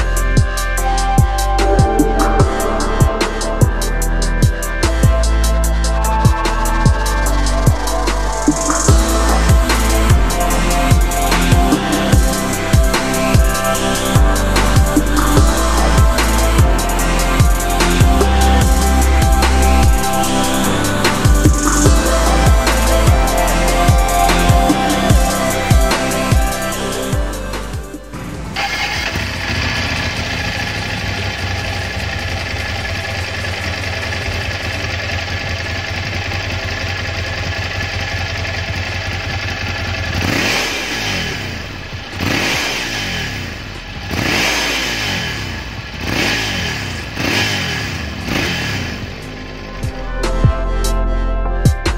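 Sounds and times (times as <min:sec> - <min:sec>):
motorcycle engine idling and revving: 0:00.0 - 0:50.6.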